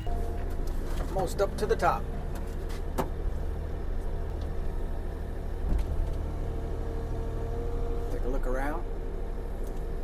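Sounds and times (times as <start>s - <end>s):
excavator diesel engine rumbling: 0.0s - 10.0s.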